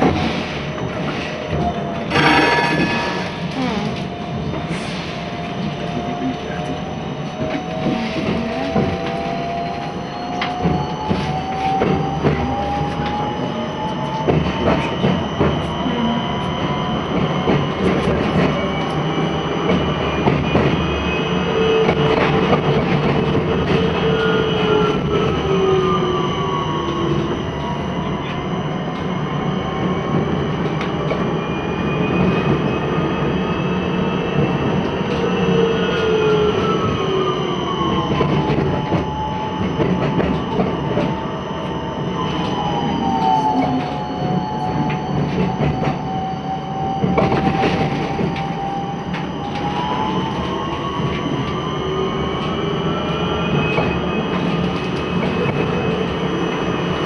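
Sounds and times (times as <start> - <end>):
tram motors whining: 0.0 - 57.0.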